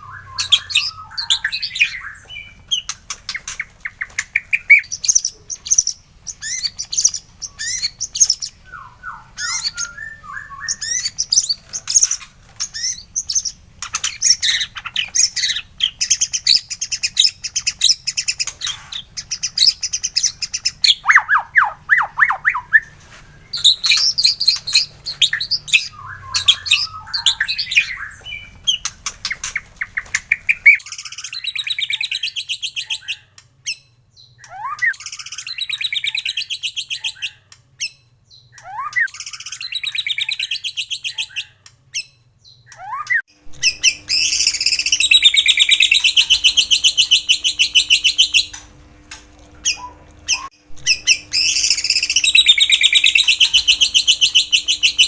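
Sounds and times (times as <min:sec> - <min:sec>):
bird singing chirps trills and whistles: 0:00.0 - 0:48.7, 0:49.6 - 0:55.0.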